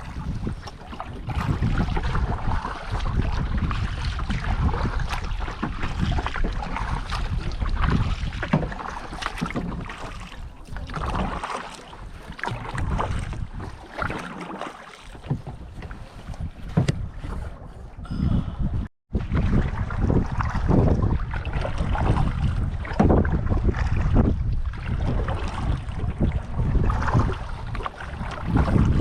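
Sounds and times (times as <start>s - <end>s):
wind buffeting microphone: 0.0s - 14.2s, 15.1s - 29.0s
kayak paddle splashing water: 0.0s - 18.0s, 19.1s - 29.0s.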